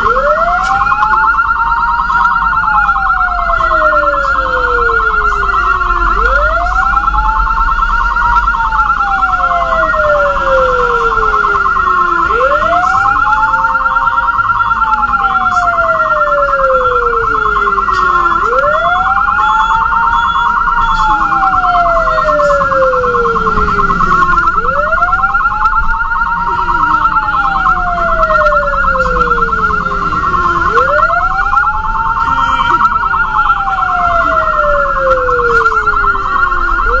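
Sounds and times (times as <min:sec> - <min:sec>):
ambulance siren wailing: 0:00.0 - 0:37.0.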